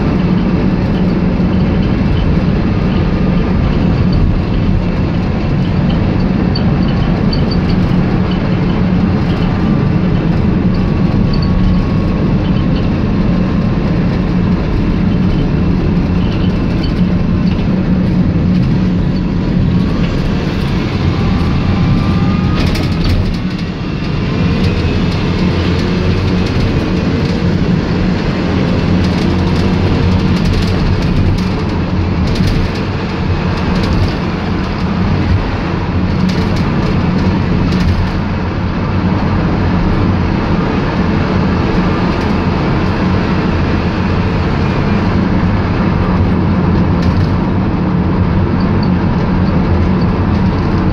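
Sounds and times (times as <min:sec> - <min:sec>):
minibus engine and road noise: 0:00.0 - 0:50.9.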